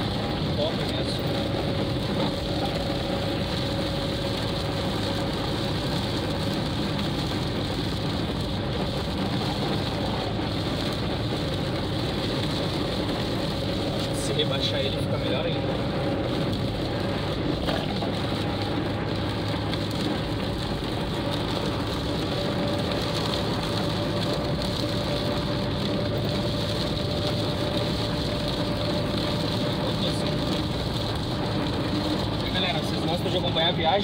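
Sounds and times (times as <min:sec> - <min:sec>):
car driving noise: 0:00.0 - 0:34.0
rain hitting windscreen: 0:00.0 - 0:34.0.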